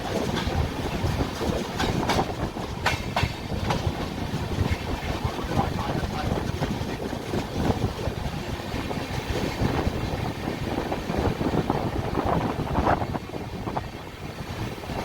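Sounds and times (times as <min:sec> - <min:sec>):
train rumbling rattle: 0:00.0 - 0:15.0.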